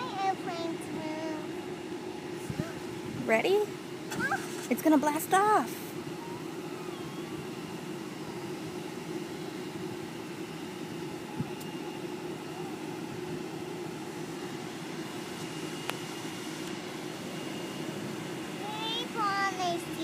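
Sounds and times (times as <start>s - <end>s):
distant jet engines droning: 0.0s - 20.0s.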